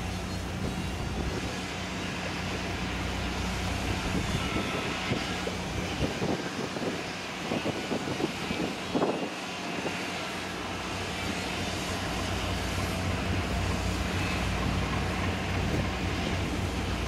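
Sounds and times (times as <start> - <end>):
diesel engine droning: 0.0 - 17.0
wind and water hiss: 0.0 - 17.0.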